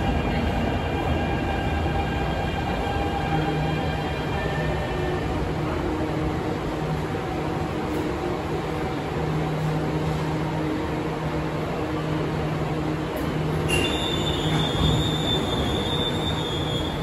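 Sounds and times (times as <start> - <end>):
train mechanical hum and hiss: 0.0 - 17.0.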